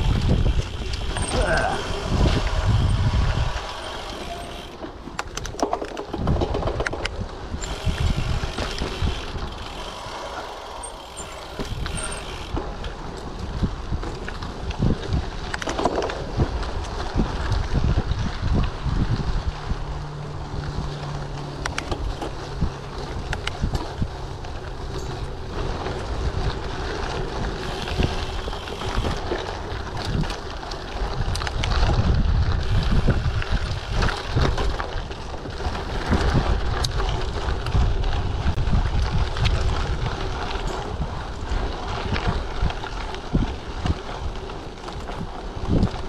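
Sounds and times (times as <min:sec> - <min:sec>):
bike rattling over bumps: 0:00.0 - 0:46.0
bike tyres rumbling on dirt: 0:00.0 - 0:46.0
wind buffeting microphone: 0:00.0 - 0:46.0.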